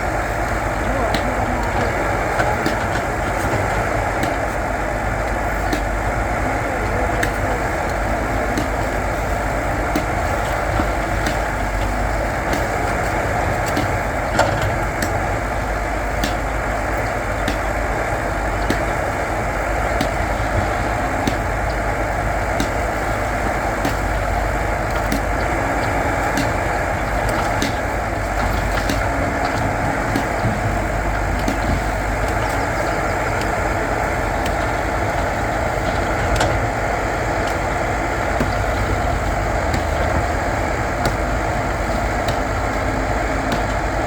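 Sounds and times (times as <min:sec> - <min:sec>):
backhoe diesel engine running: 0:00.0 - 0:44.0.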